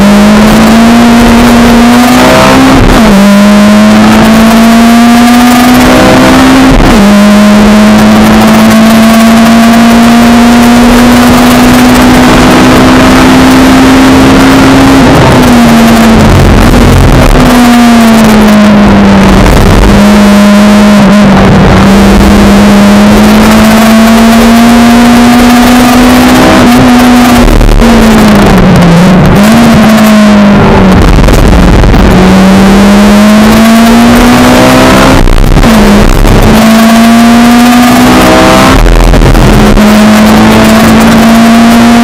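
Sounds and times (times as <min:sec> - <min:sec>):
car engine at high revs: 0:00.0 - 0:42.0
road and wind noise: 0:00.0 - 0:42.0.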